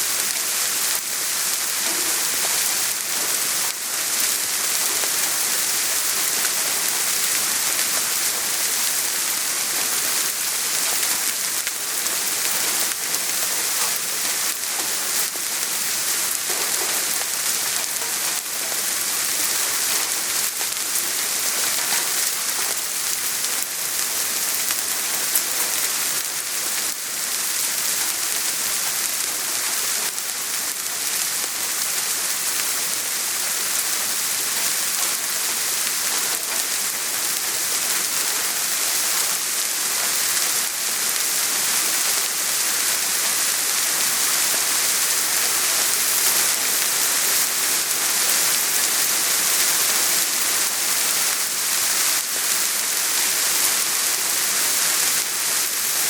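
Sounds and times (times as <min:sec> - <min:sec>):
soft steady rain: 0:00.0 - 0:56.0.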